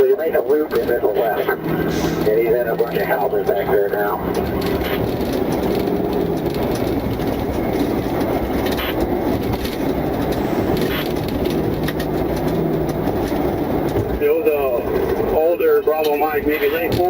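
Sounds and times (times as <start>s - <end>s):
loud rumbling cabin drone: 0.2s - 17.0s.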